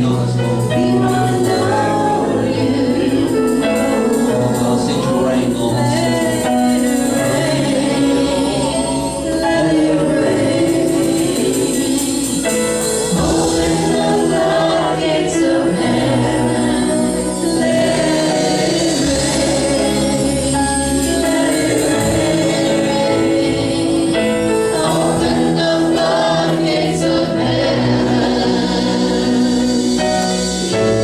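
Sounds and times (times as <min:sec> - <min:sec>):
gospel music with singing: 0:00.0 - 0:31.0.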